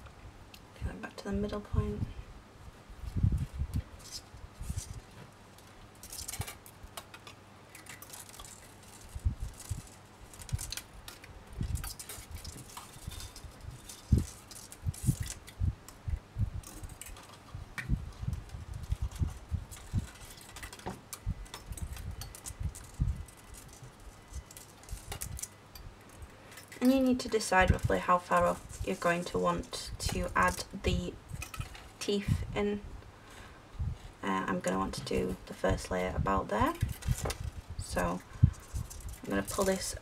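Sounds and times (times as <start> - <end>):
wire rustling scratchily: 0.8 - 32.6, 33.8 - 40.0.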